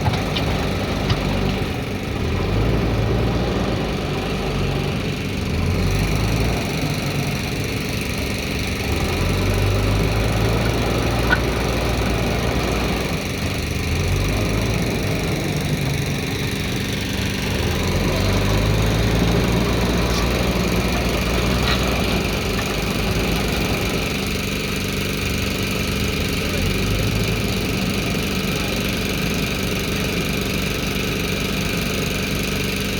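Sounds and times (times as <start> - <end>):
diesel engine revving: 0.0 - 32.9.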